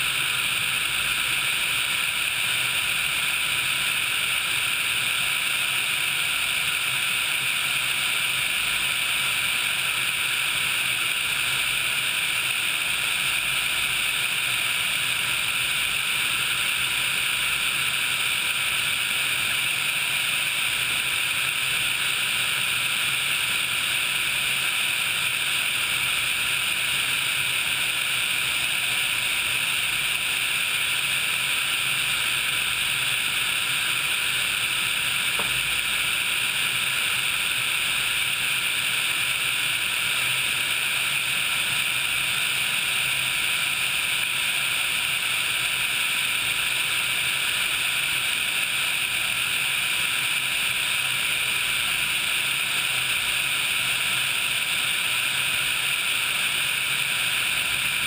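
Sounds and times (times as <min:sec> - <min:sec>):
faint steady whine: 0:00.0 - 0:58.0
helicopter in flight: 0:00.0 - 0:58.0.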